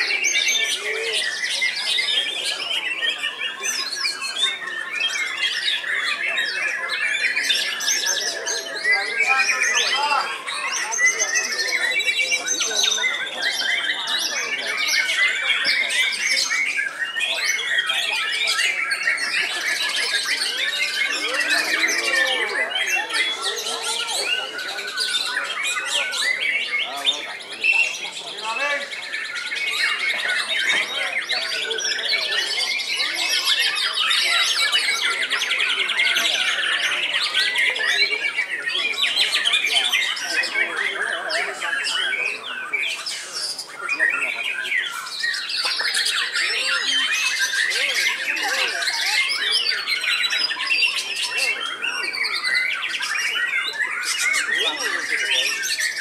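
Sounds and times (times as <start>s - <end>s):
caged birds singing: 0.0s - 56.0s.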